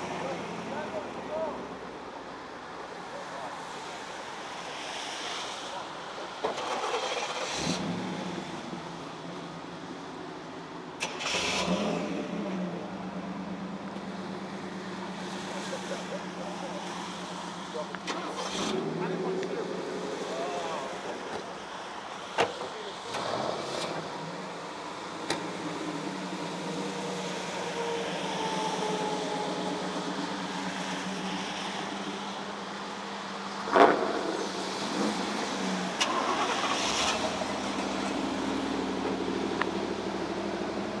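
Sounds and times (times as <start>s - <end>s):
car engines idling: 0.0s - 41.0s.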